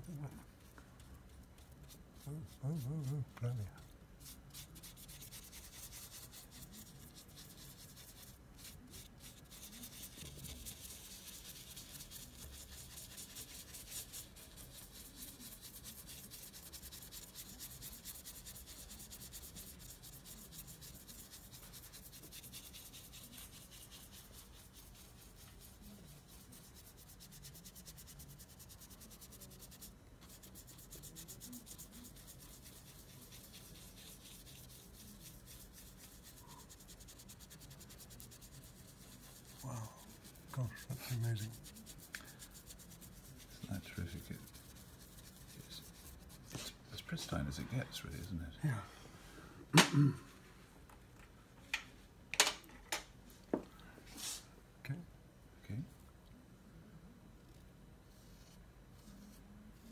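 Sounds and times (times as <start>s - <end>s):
cotton swab rubbing on paint: 0.0s - 48.4s, 54.1s - 54.5s, 57.4s - 59.9s.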